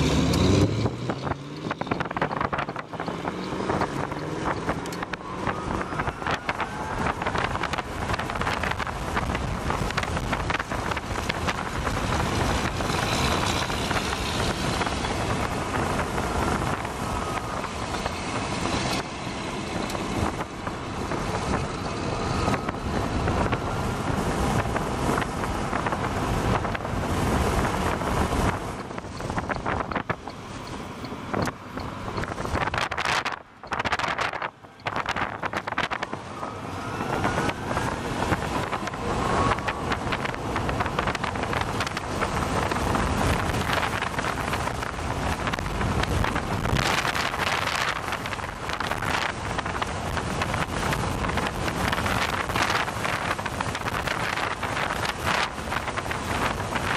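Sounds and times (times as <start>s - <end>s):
tyre and road noise: 0.0s - 56.9s
wind buffeting microphone: 0.0s - 56.9s.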